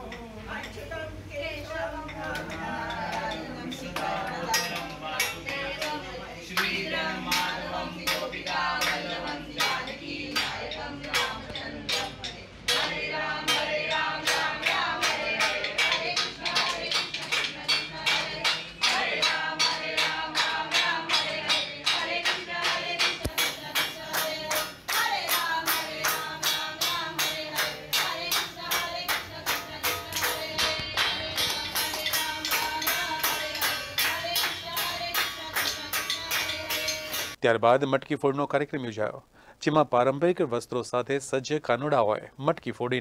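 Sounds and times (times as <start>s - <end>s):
person singing: 0.0s - 37.4s
fast percussion beat: 2.1s - 37.4s.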